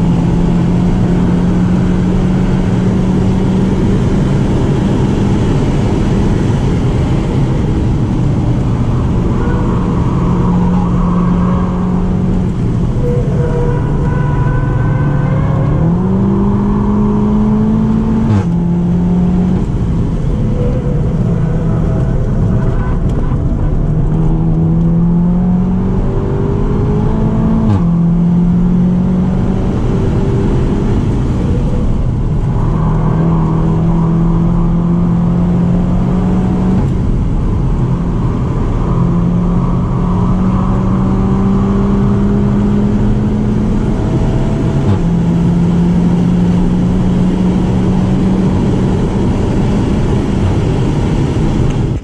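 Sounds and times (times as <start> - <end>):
car engine accelerating: 0.0 - 52.0
wind noise: 0.0 - 52.0.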